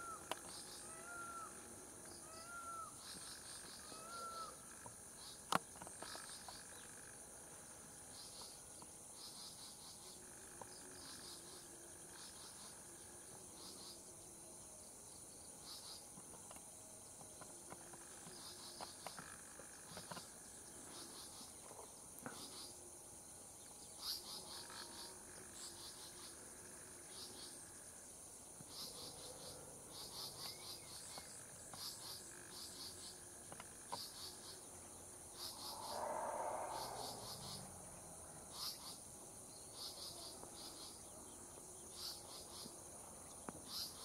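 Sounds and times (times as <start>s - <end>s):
cricket-like chirping: 0.0s - 44.0s
insect drone: 0.0s - 44.0s.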